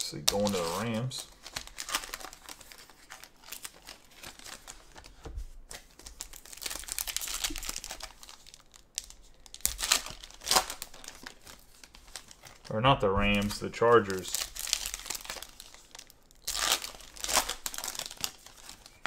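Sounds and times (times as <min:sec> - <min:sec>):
foil wrappers crinkling and tearing: 0:00.0 - 0:19.0.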